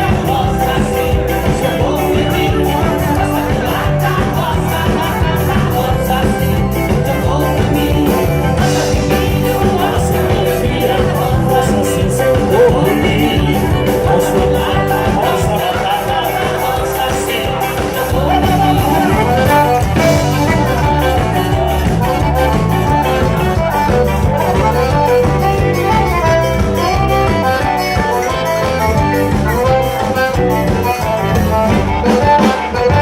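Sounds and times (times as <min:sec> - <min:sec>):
live band playing instrumental: 0:00.0 - 0:33.0.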